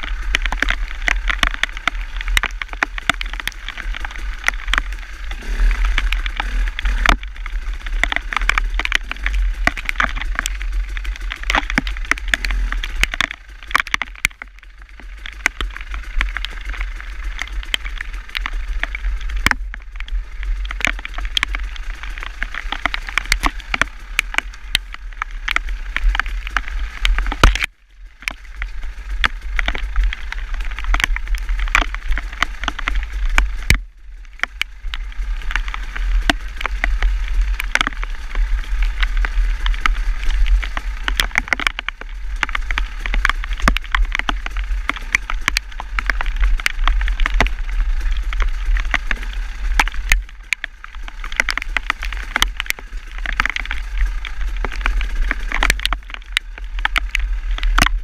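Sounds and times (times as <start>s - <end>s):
rain taps: 0.0s - 58.0s
wind rumbling on microphone: 0.0s - 58.0s.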